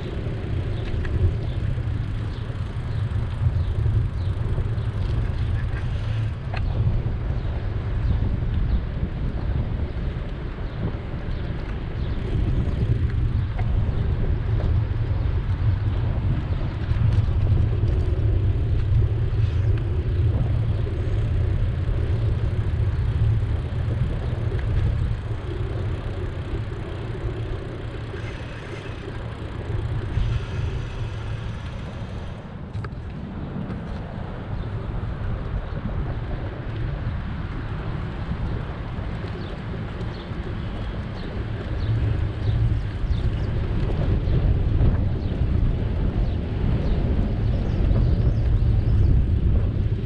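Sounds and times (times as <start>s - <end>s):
passing road traffic: 0.0s - 50.0s
wind on microphone: 0.0s - 50.0s.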